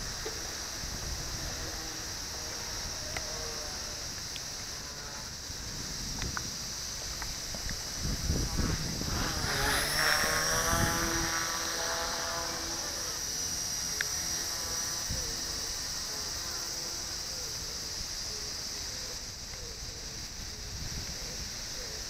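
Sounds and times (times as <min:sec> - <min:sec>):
rc helicopter whine: 0:00.0 - 0:22.0.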